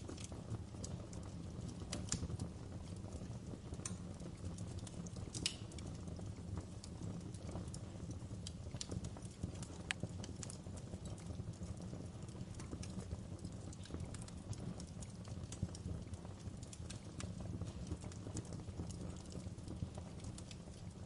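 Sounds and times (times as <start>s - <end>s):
firewood crackling and popping: 0.0s - 21.0s
flames rumbling: 0.0s - 21.0s.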